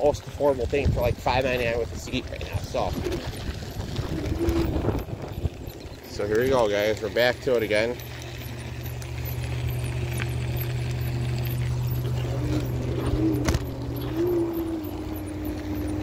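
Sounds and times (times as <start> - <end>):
electric scooter motor whine: 0.0 - 16.0.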